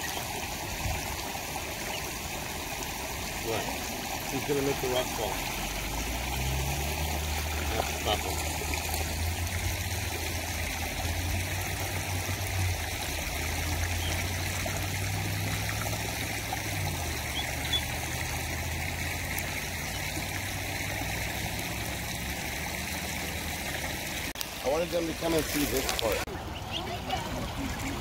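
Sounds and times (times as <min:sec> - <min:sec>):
creek trickling over rocks: 0:00.0 - 0:28.0.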